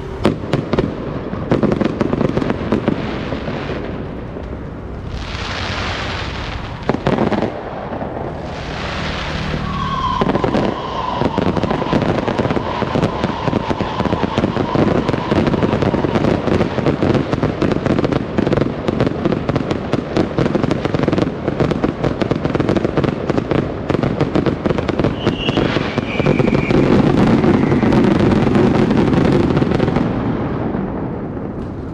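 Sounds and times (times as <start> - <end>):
firework whistling: 0.0 - 19.2, 23.3 - 30.8
fireworks crackling: 0.0 - 31.9.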